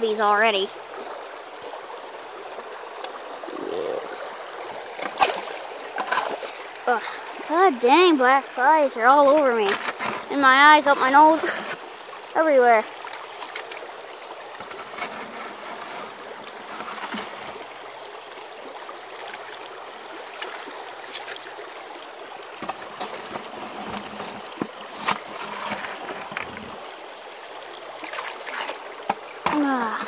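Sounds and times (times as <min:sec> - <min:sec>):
water rushing through sluice box: 0:00.0 - 0:30.0.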